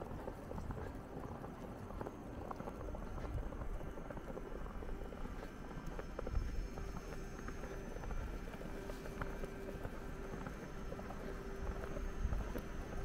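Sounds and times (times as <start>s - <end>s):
footsteps crunching through snow: 0.0s - 13.0s.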